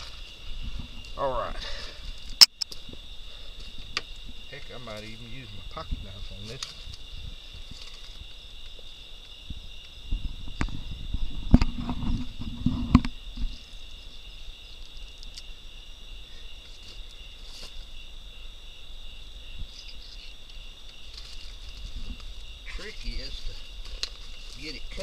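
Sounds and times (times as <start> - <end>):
night insect chorus buzzing: 0.0 - 25.0.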